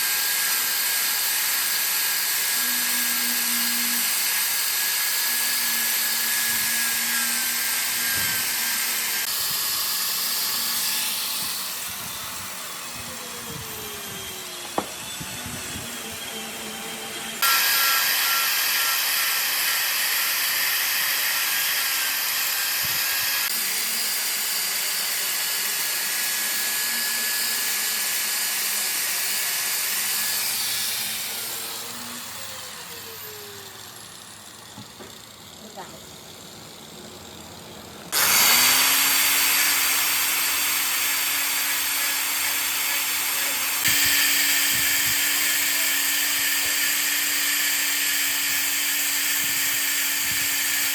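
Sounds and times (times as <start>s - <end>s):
power tool whining on wood: 0.0s - 50.9s.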